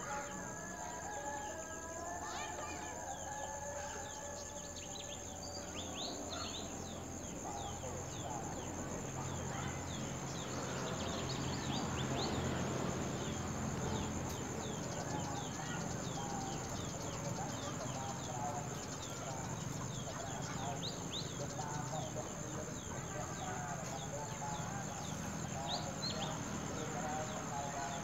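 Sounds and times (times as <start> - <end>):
birds chirping: 2.3 - 28.0.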